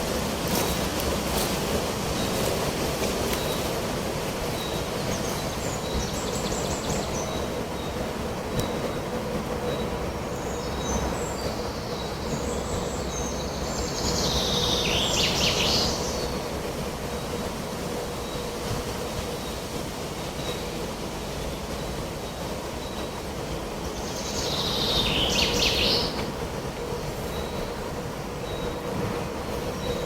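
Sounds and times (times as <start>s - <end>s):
songbirds singing: 0.5s - 30.0s.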